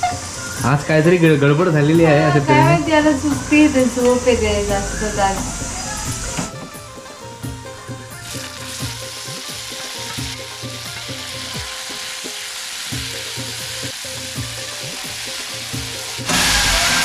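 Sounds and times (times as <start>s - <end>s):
onions and tomatoes sizzling in oil: 0.0s - 17.0s.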